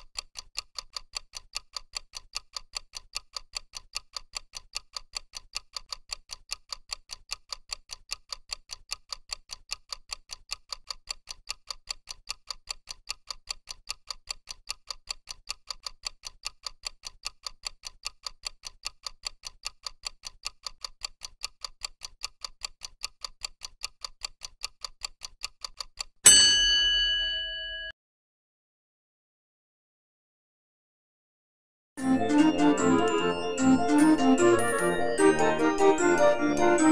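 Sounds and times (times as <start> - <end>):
fast clock ticking: 0.0 - 26.2, 32.2 - 36.9.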